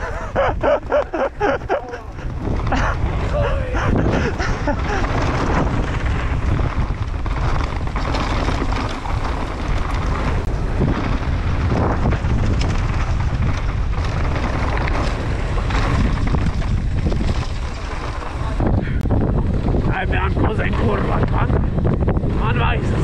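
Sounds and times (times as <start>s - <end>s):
bike rattling over bumps: 0.0s - 23.0s
bike tyres on dirt: 0.0s - 23.0s
wind buffeting microphone: 0.0s - 23.0s.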